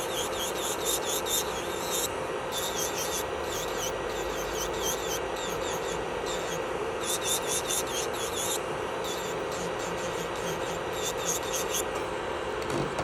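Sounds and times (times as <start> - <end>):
drill bit grinding nail: 0.0 - 12.0
electric nail drill whining: 0.0 - 12.0.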